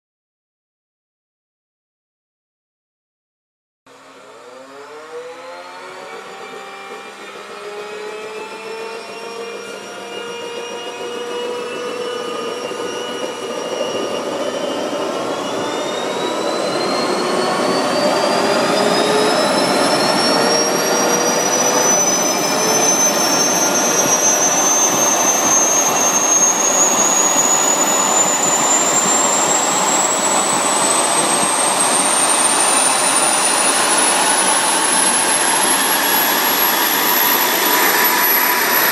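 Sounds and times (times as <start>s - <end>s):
turboprop engines spooling up: 3.9s - 38.9s.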